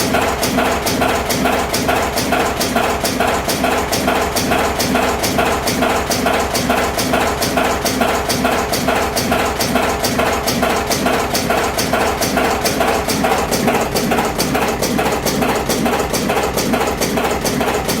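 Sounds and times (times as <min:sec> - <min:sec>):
machine clattering and clicking: 0:00.0 - 0:18.0.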